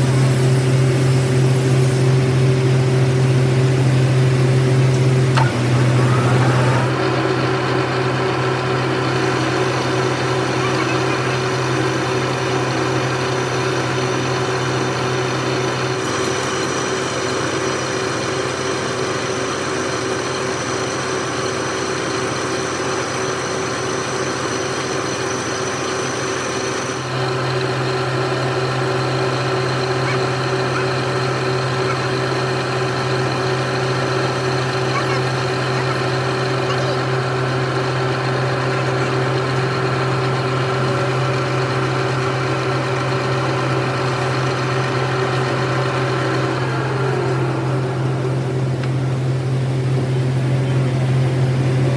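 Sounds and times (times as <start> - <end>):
metal lathe humming: 0.0 - 51.9.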